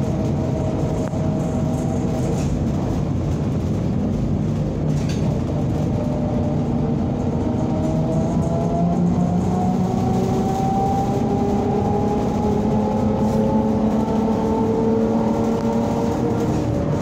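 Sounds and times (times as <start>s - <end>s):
low rumble of road noise: 0.0s - 17.0s.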